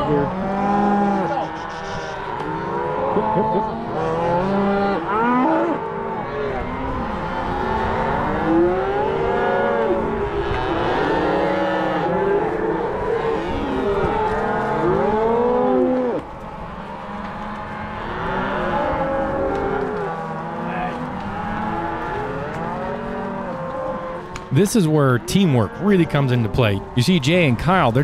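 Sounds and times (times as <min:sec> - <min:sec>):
cattle mooing: 0:00.0 - 0:28.0.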